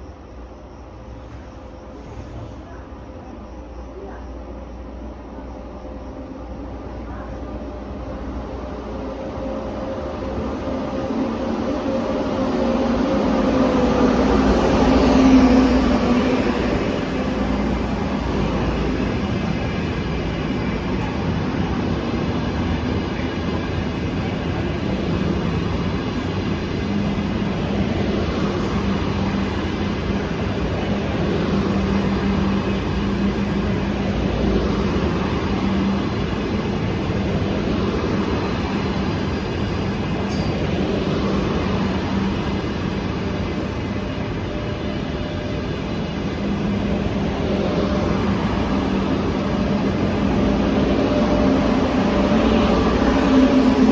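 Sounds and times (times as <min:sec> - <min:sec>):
train rumbling on rails: 0:00.0 - 0:53.9.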